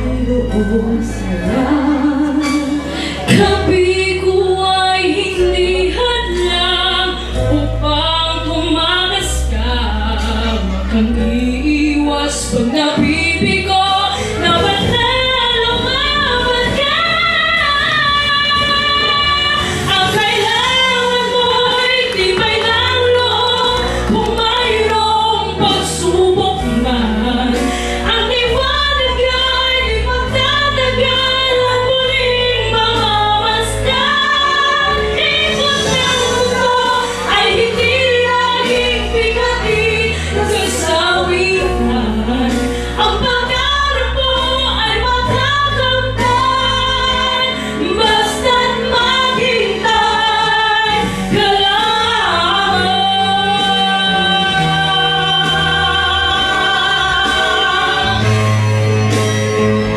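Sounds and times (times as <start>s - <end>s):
two women singing a duet: 0.0s - 58.6s
musical accompaniment with bass: 0.0s - 59.9s.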